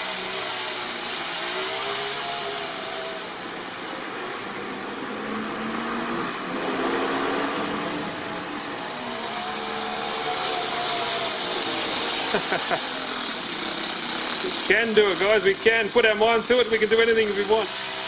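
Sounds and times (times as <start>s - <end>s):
nitro engine revving: 0.0s - 18.0s
truck passing: 1.6s - 17.6s.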